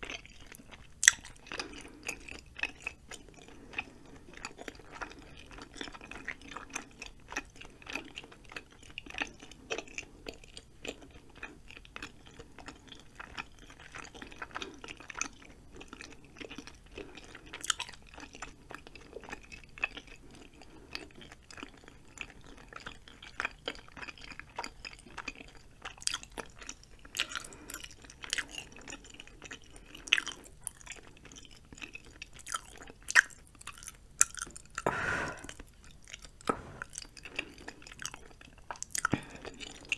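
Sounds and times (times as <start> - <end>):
close chewing mouth sounds: 0.0 - 39.9.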